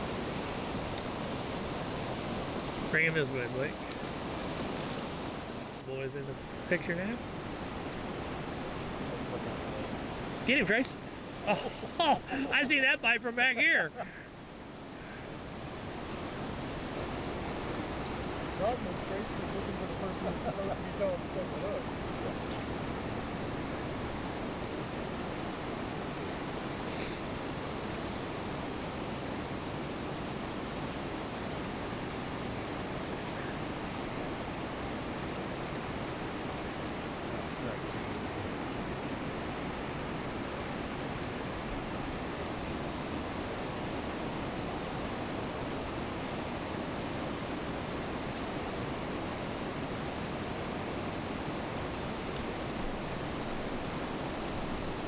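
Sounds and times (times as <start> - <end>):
flowing river water: 0.0 - 55.0.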